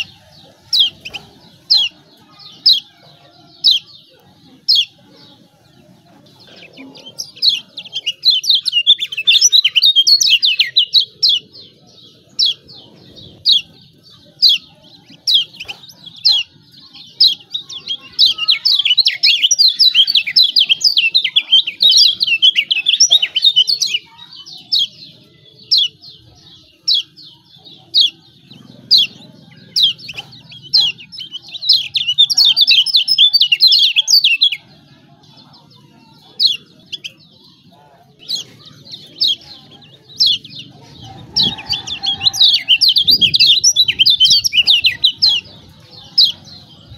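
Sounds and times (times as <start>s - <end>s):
white-eye bird chattering: 0.0s - 46.9s.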